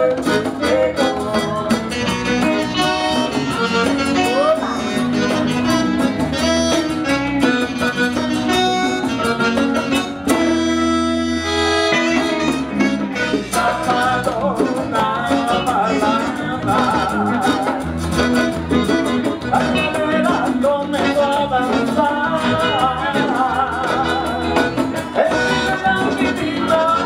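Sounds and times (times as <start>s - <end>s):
acoustic guitar: 0.0s - 27.0s
latin band music: 0.0s - 27.0s
percussion: 0.0s - 27.0s
saxophone lead: 0.0s - 27.0s.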